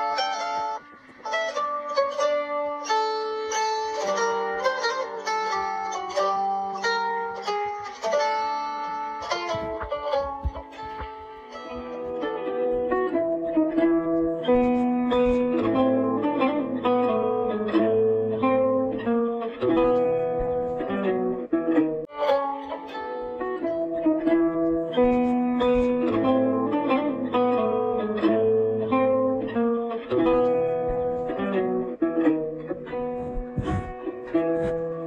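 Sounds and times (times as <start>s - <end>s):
plucked string music: 0.0s - 35.0s.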